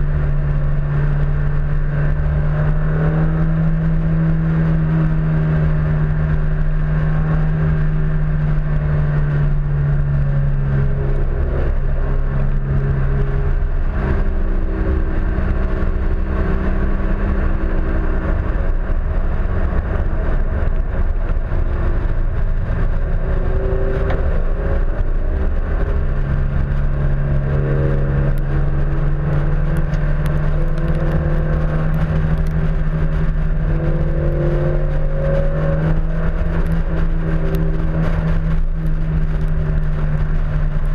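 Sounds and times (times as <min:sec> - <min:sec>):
car engine at speed: 0:00.0 - 0:40.9
wind rush on microphone: 0:00.0 - 0:40.9.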